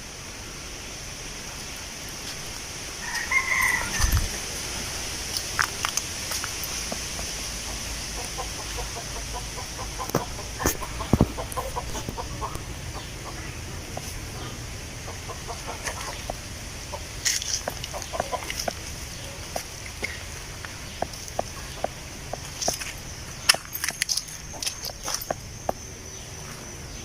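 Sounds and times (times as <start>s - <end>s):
wind rustling leaves: 0.0s - 27.0s.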